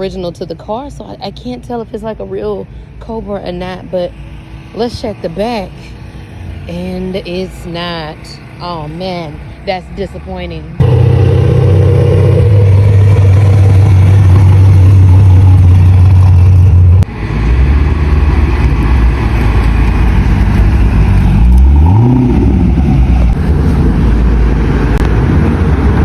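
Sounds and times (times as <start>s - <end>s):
car engine droning: 0.0s - 26.0s
engine rumble revving: 0.0s - 26.0s.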